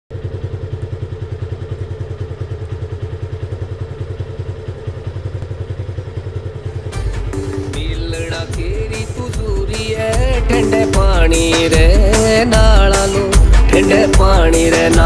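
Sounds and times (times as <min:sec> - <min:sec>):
motorcycle engine idling: 0:00.1 - 0:15.0.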